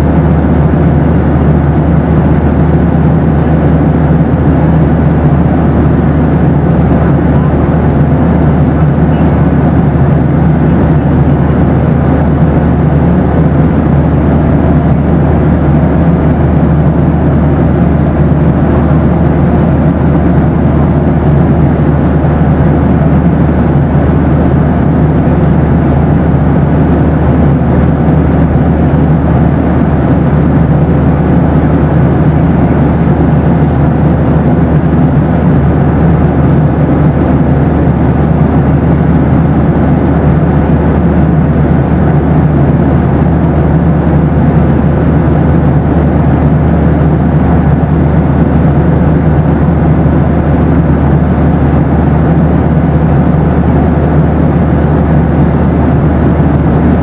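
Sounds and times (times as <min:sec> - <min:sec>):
airliner in-flight roar: 0:00.0 - 0:57.0
faint steady hums: 0:00.0 - 0:57.0.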